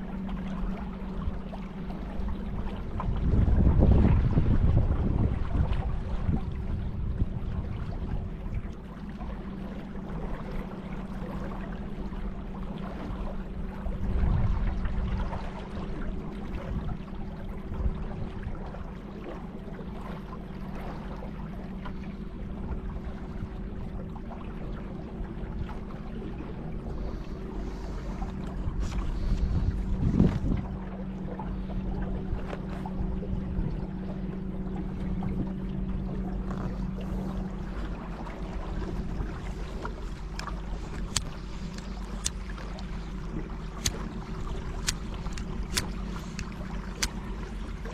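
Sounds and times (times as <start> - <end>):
river water splashing against boat: 0.0 - 47.9
steady low hum: 0.0 - 47.9
wind: 0.0 - 47.9.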